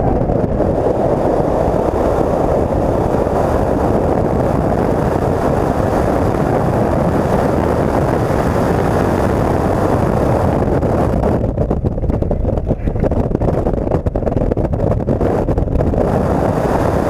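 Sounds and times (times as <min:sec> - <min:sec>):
car engine running at speed: 0:00.0 - 0:17.0
wind rushing: 0:00.0 - 0:17.0.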